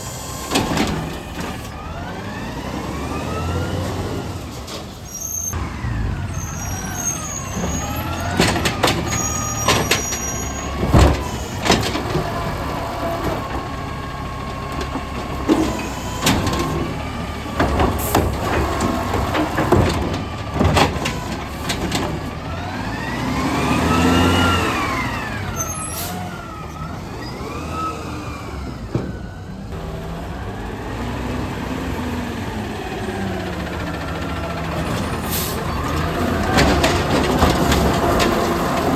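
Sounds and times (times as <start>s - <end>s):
garbage truck engine running: 0.0s - 38.9s.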